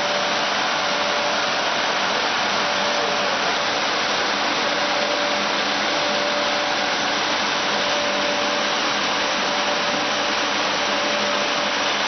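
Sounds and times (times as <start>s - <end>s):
faint machine whine: 0.0s - 12.0s.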